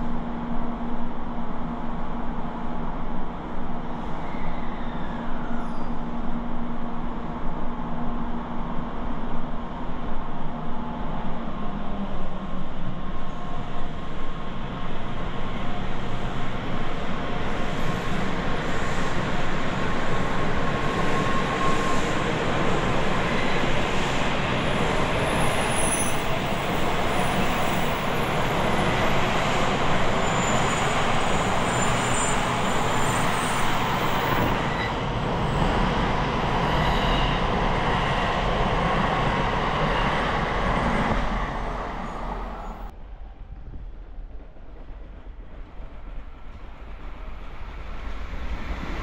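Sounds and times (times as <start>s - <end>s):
high-speed train passing: 0.0s - 49.0s.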